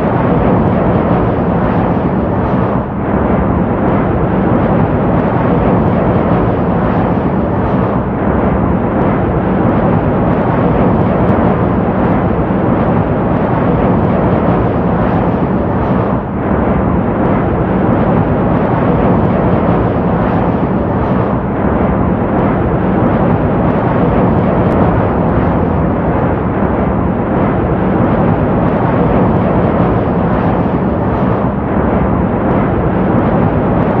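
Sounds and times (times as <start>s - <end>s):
jet aircraft engine rumble: 0.0s - 34.0s.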